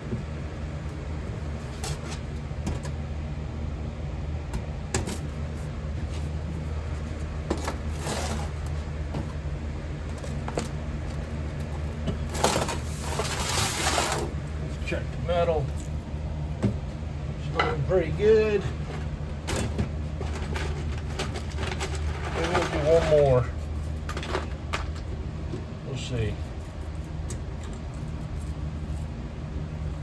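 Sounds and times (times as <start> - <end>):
furnace low hum: 0.0 - 30.0.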